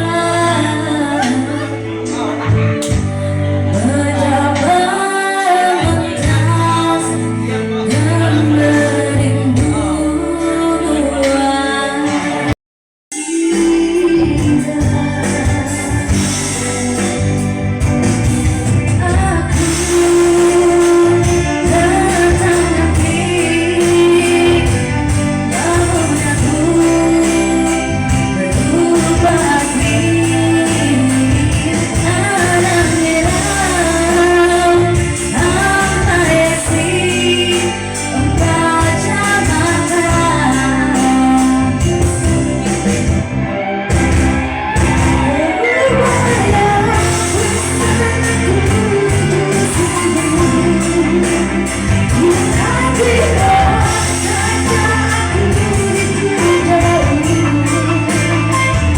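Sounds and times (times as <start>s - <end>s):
person singing: 0.0s - 17.8s, 18.4s - 42.9s, 44.6s - 58.9s
amplified backing music with bass: 0.0s - 58.9s.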